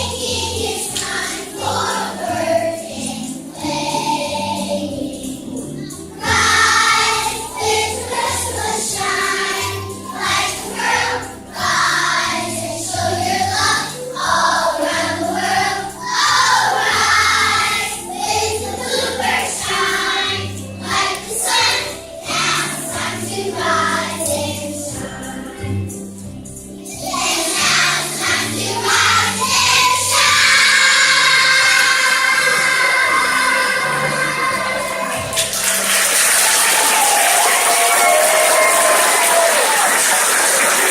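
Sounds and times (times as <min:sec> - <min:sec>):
children's choir singing: 0:00.0 - 0:40.9.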